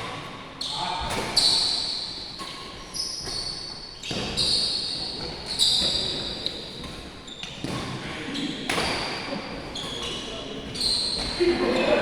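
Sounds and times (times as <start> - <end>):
shoes squeaking on court floor: 0.0 - 12.0.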